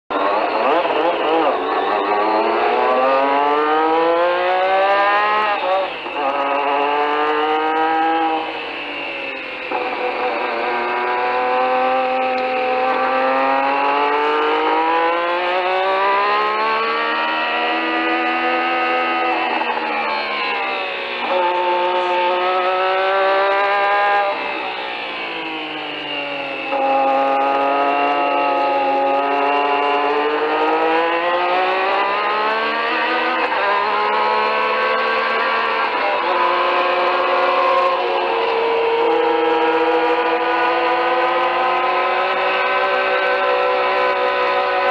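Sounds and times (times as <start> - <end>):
racing car engine accelerating: 0.1 - 44.9.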